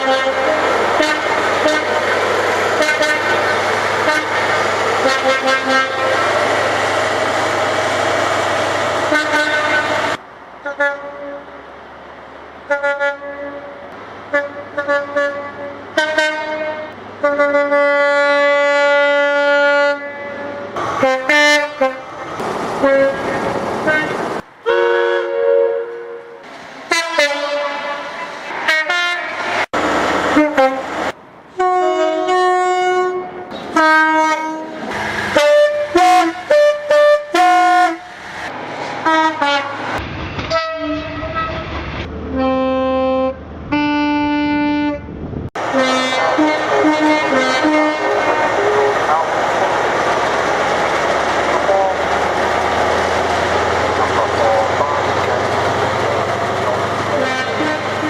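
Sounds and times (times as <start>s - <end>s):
train horns: 0.0s - 6.6s, 9.0s - 11.6s, 12.7s - 22.2s, 22.8s - 29.7s, 30.3s - 38.2s, 39.0s - 49.9s, 53.9s - 58.0s
train noise: 0.0s - 58.0s.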